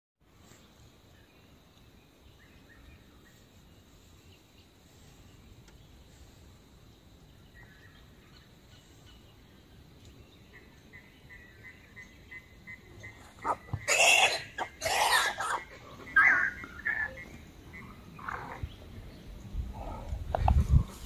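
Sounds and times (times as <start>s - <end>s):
low rumble and hiss: 0.2s - 13.4s, 14.4s - 21.0s
faint chirps: 0.3s - 21.0s.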